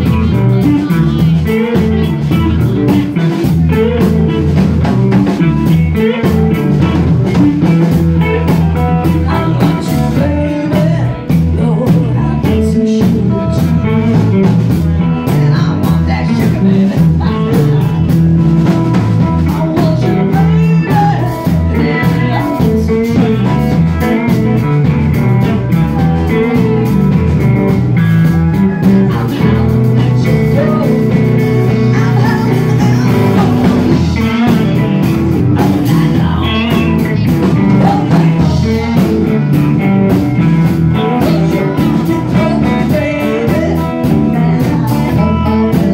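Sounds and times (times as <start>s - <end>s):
bass guitar: 0.0s - 45.9s
drum kit: 0.0s - 45.9s
electric guitars: 0.0s - 45.9s.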